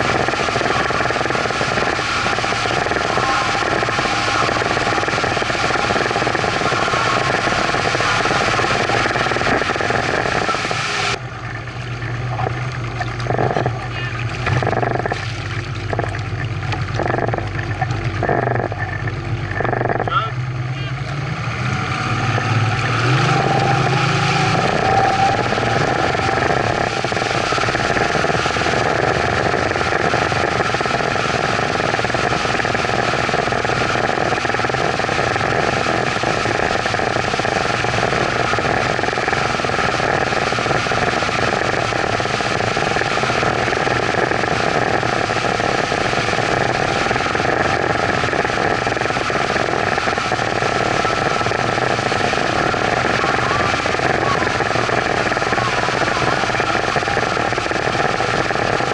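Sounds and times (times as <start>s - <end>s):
outboard motor running: 0.0s - 58.9s
water rushing in wake: 0.0s - 58.9s.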